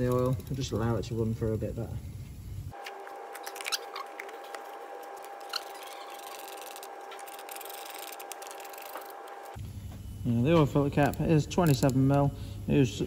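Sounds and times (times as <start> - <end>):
steady faint whine: 0.0 - 13.0.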